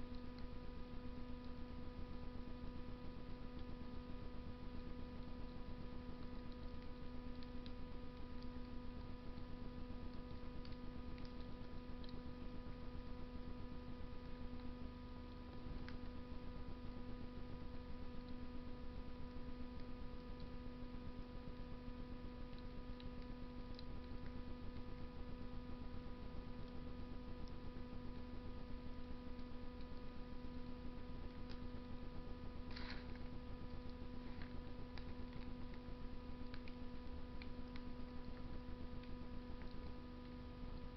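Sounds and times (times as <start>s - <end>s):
electrical hum: 0.0s - 40.9s
fire crackling in a stove: 0.0s - 40.9s.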